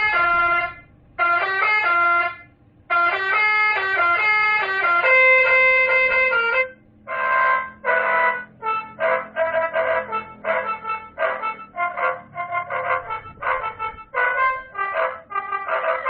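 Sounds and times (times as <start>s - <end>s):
multi-tone horn melody: 0.0s - 16.0s
rough horn blasts: 0.0s - 16.0s.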